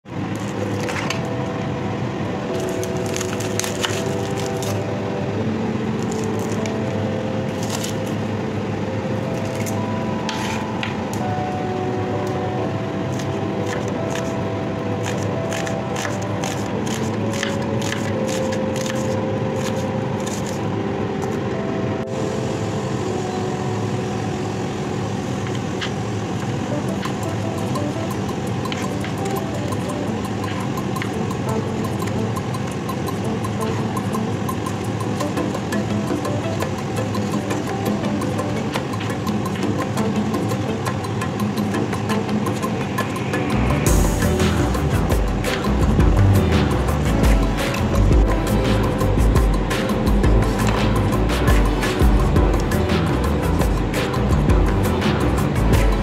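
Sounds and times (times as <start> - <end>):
soft background music: 0.0 - 56.0.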